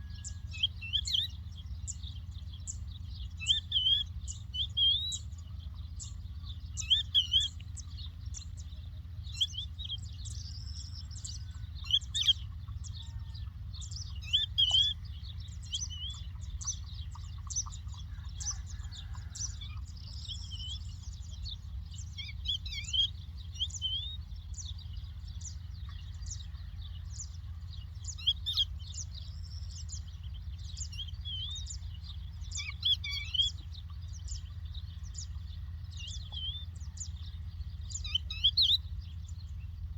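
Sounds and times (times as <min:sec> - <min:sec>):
larks singing: 0:00.0 - 0:39.9.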